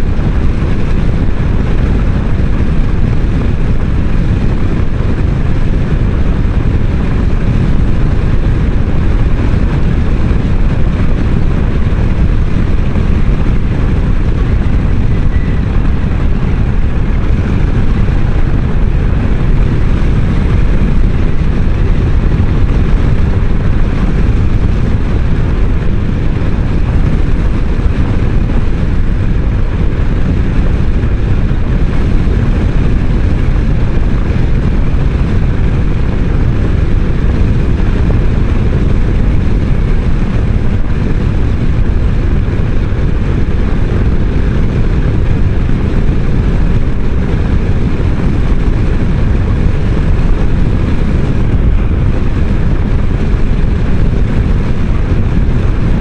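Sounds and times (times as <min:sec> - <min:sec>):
road noise: 0:00.0 - 0:56.0
wind rumble on microphone: 0:00.0 - 0:56.0.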